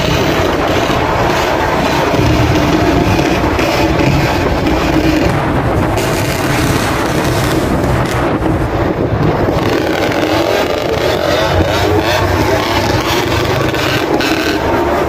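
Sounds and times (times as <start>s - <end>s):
small dirt bike engines running: 0.0s - 15.0s.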